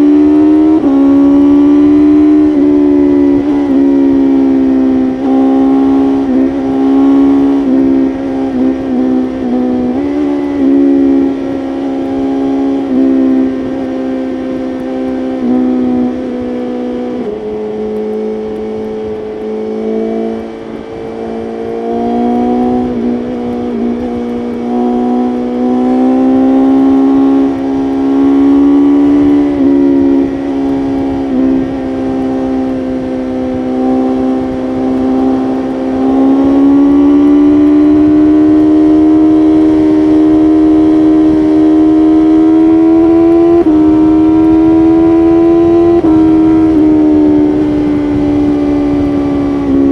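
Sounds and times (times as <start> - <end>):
motorcycle engine running hard: 0.0 - 49.9.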